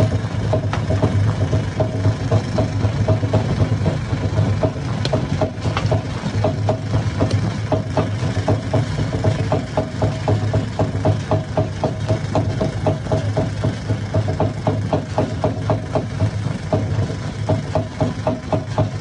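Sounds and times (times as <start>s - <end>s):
stone crusher low hum: 0.0s - 19.0s.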